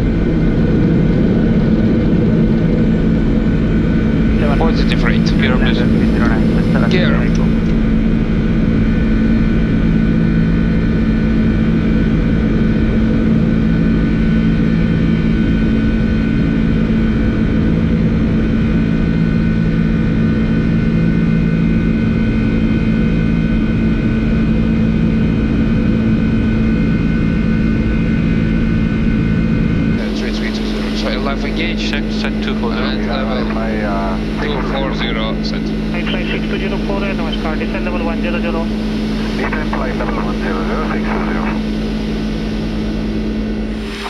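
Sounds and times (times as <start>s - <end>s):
constant low hum: 0.0s - 44.0s
roar of jet engines and airflow: 0.0s - 44.0s.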